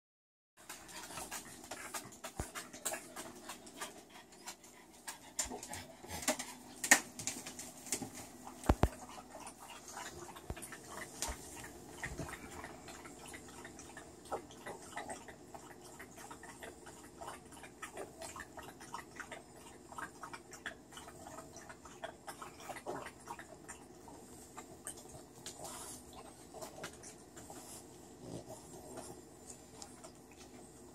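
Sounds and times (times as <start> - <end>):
dog panting: 0.6 - 6.8, 8.1 - 30.9.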